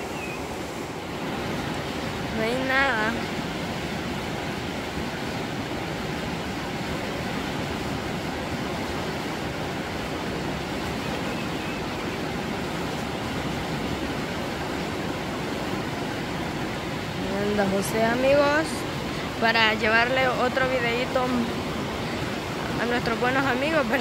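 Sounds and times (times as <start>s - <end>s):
river rapids rushing over boulders: 0.0s - 24.0s.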